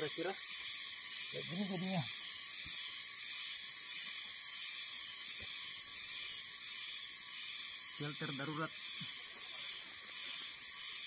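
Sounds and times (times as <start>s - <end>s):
high-pitched outdoor hiss: 0.0s - 11.0s.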